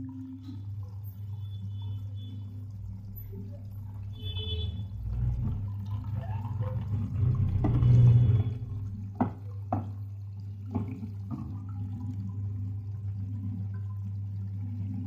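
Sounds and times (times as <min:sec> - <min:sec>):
water rushing into dispenser: 0:00.0 - 0:15.0.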